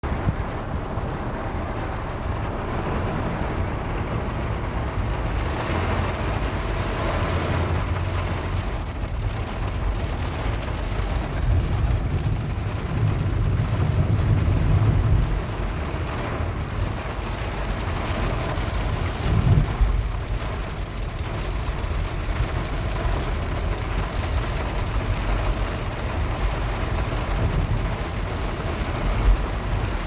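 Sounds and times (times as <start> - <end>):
low engine rumble: 0.0 - 30.0
rain: 0.0 - 30.0.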